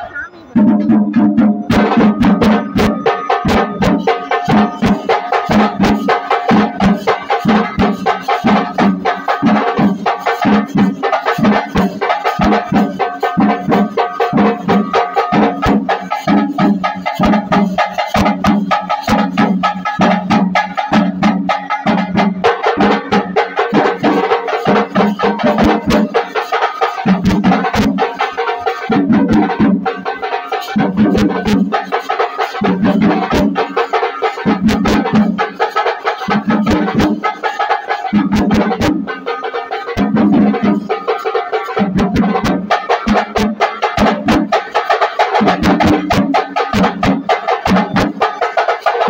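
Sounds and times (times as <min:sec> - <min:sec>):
drums beaten in fast rhythm: 0:00.0 - 0:49.0.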